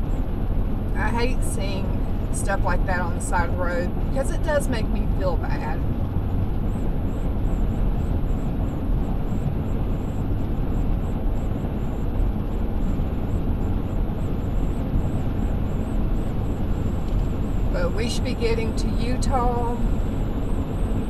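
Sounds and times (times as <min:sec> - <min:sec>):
car road noise at highway speed: 0:00.0 - 0:21.0.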